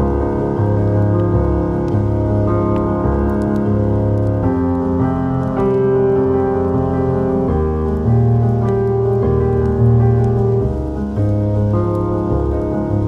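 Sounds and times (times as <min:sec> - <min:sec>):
fireplace crackles: 0:00.0 - 0:13.0
soft slow piano music: 0:00.0 - 0:13.0.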